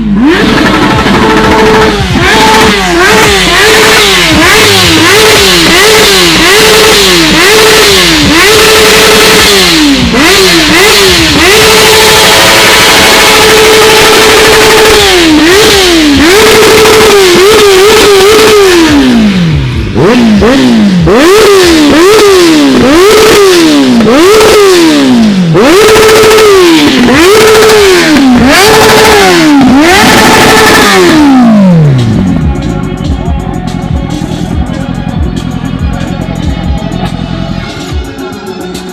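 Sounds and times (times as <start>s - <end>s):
motorcycle engine revving hard: 0.0s - 38.3s.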